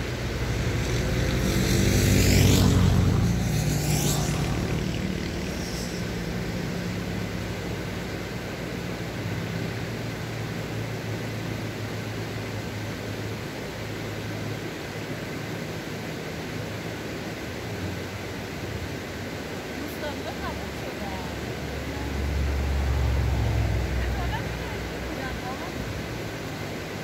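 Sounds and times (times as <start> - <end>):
low engine drone: 0.0 - 27.0
steady rushing noise: 0.0 - 27.0.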